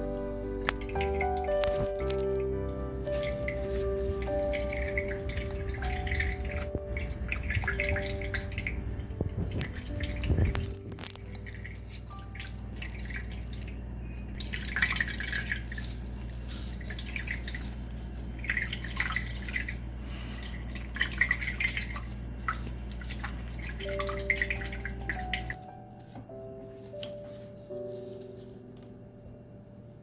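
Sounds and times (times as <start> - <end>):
steady low hum: 0.0 - 30.0
liquid dripping and splashing: 0.6 - 27.4.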